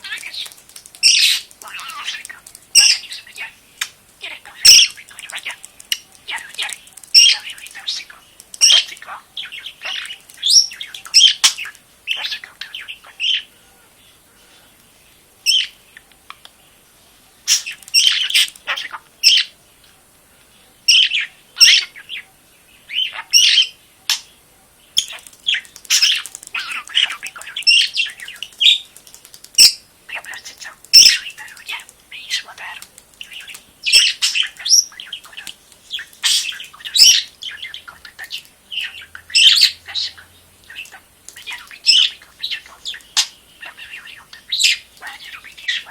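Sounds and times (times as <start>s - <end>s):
budgerigar chirping and chattering: 0.0s - 13.5s, 17.5s - 19.5s, 20.9s - 22.2s, 22.9s - 24.3s, 25.0s - 28.9s, 29.5s - 45.9s.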